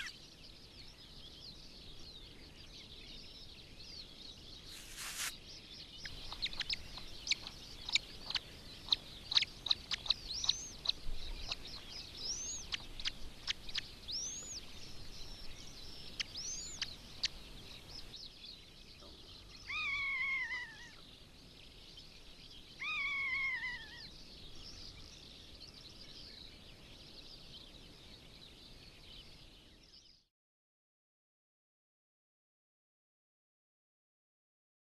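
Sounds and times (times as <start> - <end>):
bird chicks chirping: 0.0 - 30.3
long falling bird calls: 0.0 - 30.3.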